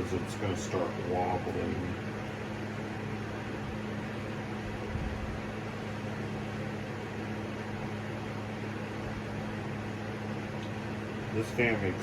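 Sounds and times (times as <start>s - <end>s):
electric fans whirring: 0.0s - 12.0s.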